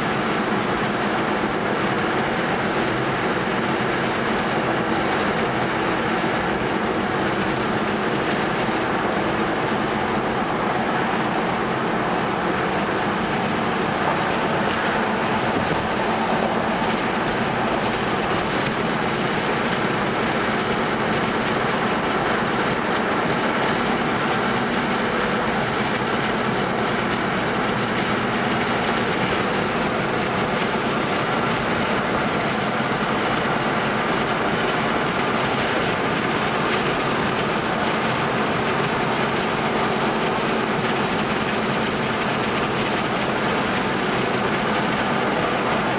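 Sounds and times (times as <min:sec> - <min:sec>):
car engine running: 0:00.0 - 0:45.9
tyres rolling on pavement: 0:00.0 - 0:45.9.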